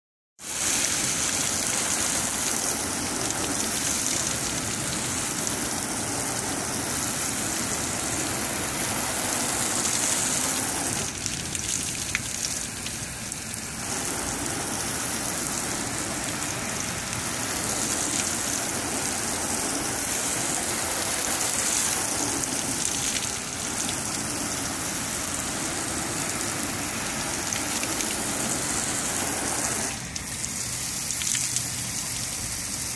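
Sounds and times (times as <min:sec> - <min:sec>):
hose spray pattering on metal: 0:00.4 - 0:32.9.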